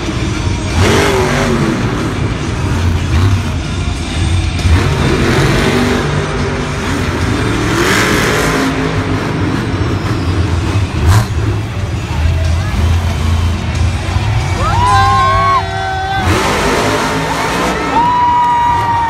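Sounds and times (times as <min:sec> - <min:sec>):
truck engine revving hard: 0:00.0 - 0:19.0.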